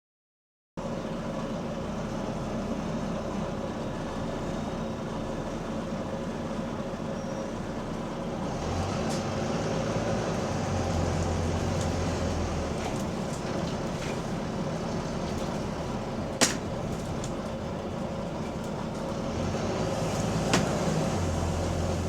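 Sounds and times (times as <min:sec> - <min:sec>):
bus engine drone: 0:00.8 - 0:22.0.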